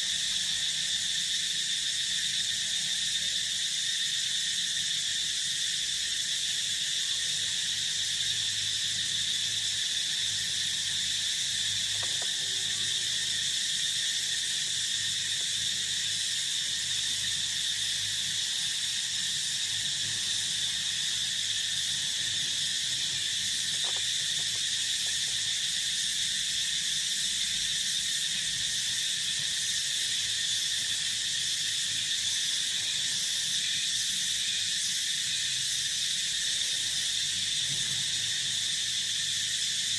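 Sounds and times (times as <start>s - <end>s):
field insects trilling: 0.0s - 39.9s.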